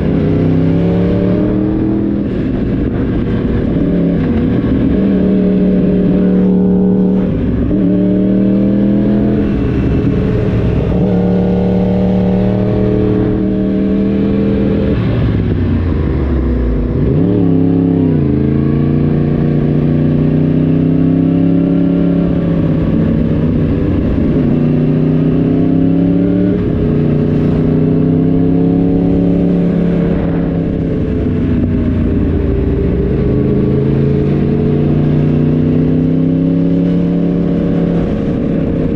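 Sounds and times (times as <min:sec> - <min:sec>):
motorcycle engine under way: 0:00.0 - 0:38.9.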